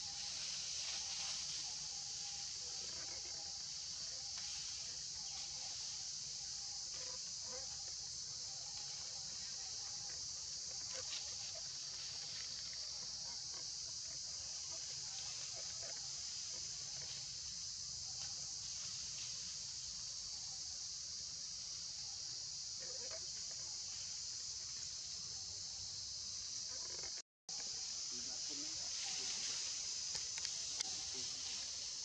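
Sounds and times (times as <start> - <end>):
faint ticks and rustles: 0.0 - 21.3, 21.9 - 32.0
insects chirring: 0.0 - 32.0.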